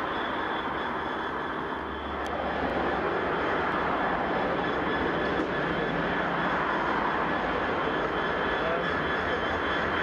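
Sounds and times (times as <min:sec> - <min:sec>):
diesel locomotive engine drone: 0:00.0 - 0:10.0
turbocharger whine: 0:00.0 - 0:10.0.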